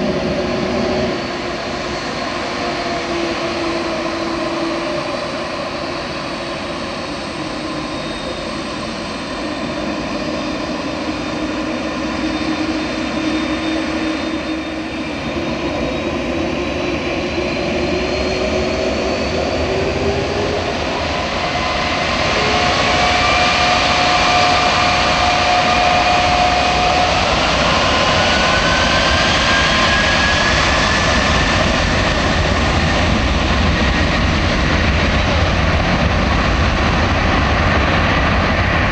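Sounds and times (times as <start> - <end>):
jet engines spooling up: 0.0 - 38.9.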